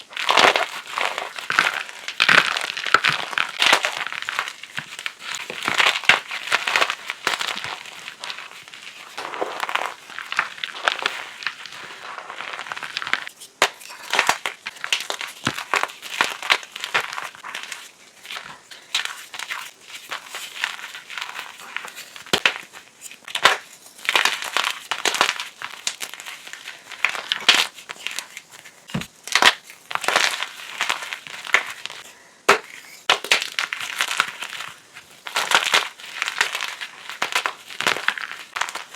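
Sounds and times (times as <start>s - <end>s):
chalk blocks crunching and snapping: 0.0s - 38.9s.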